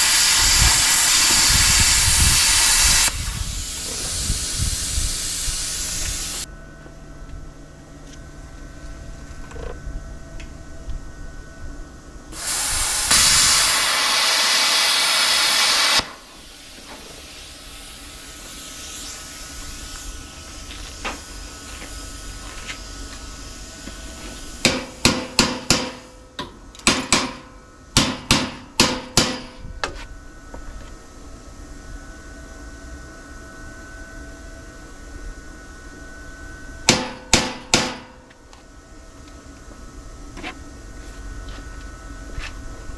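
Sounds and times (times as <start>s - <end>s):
loud steady hiss: 0.0s - 6.5s, 12.2s - 42.9s.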